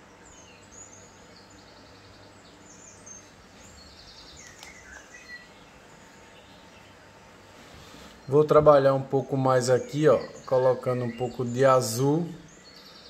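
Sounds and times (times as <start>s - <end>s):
faint birds chirping: 0.0s - 13.0s
low background hum: 0.0s - 13.0s.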